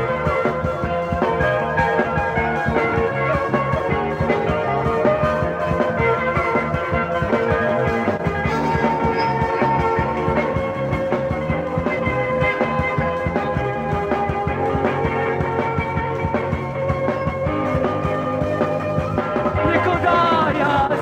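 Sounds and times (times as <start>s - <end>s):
psychedelic rock instrumental: 0.0s - 21.0s.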